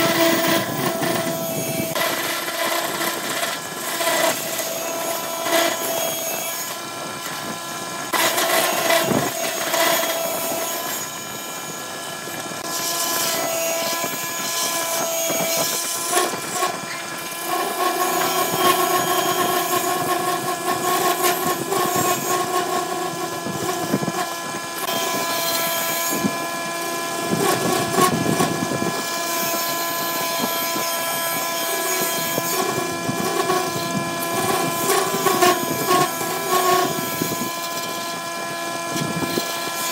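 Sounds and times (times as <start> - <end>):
tool scraping spinning wood: 0.0 - 39.9
wood lathe motor whine: 0.0 - 39.9.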